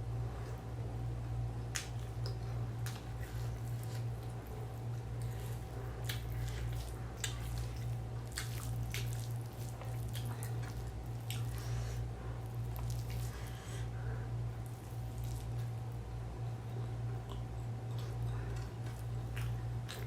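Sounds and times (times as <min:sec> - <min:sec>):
wet chewing and mouth sounds: 0:01.7 - 0:20.0.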